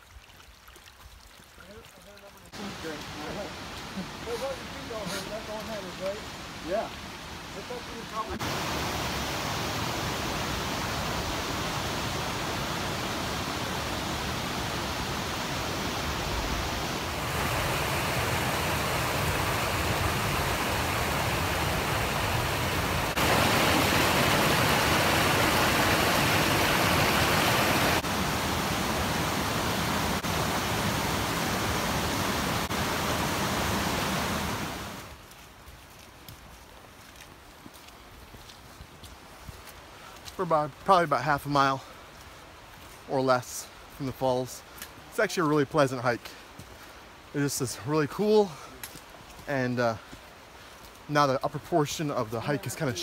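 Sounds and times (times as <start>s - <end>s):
rushing creek water: 0.0s - 53.0s.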